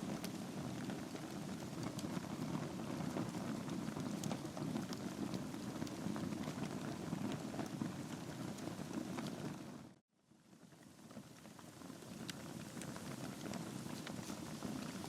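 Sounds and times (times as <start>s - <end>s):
logs crackling in fireplace: 0.0s - 9.9s, 10.6s - 15.0s
low rumble of flames: 0.0s - 15.0s.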